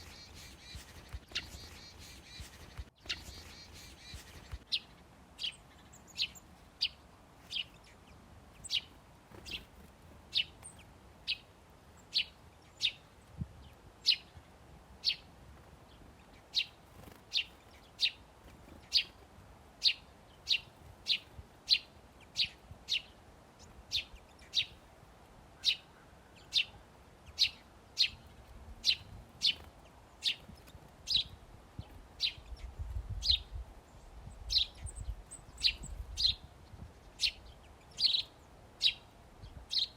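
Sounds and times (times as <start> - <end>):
small songbird chirping: 0.0 - 24.8, 25.6 - 39.9.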